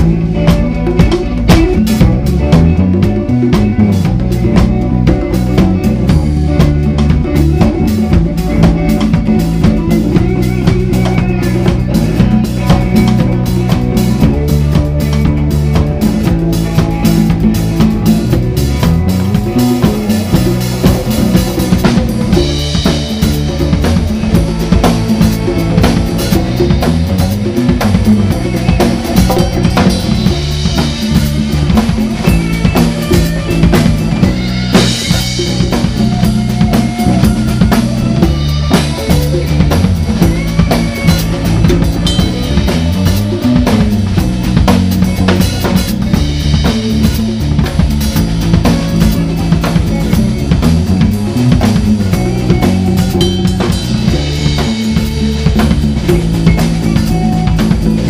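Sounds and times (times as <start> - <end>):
bass line: 0.0 - 58.0
drum and cymbal hits: 0.0 - 58.0
hand drums: 0.0 - 58.0
live band music: 0.0 - 58.0.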